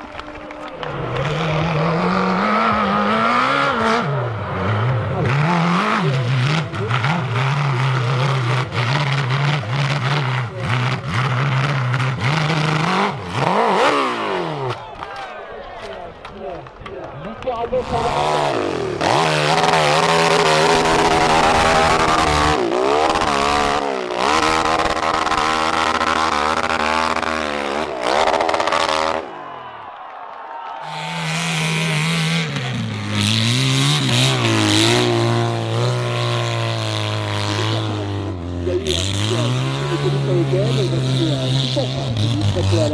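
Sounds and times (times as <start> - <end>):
racing motorcycle engine revving: 0.0 - 14.9, 17.4 - 29.7, 30.8 - 42.9.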